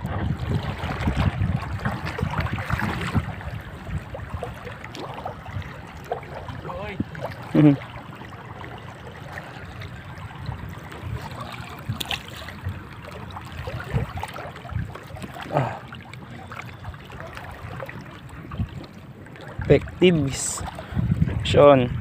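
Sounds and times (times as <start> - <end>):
water lapping and trickling: 0.0 - 22.0.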